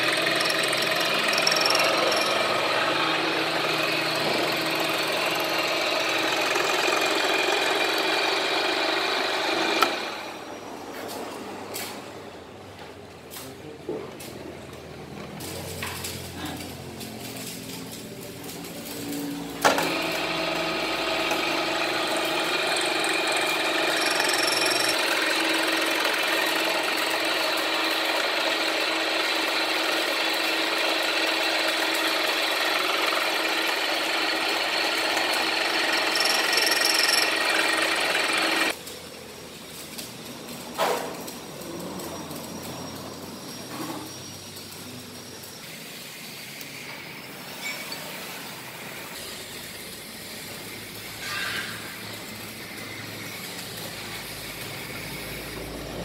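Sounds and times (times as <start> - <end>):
power tool cutting metal: 0.0 - 10.6, 15.4 - 38.8, 40.2 - 56.0.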